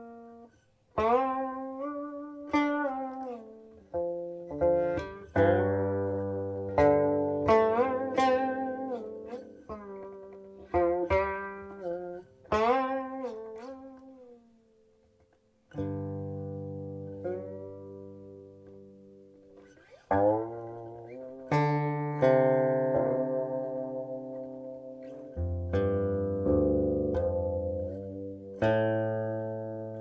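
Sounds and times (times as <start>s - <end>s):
plucked zither notes: 0.0s - 30.0s.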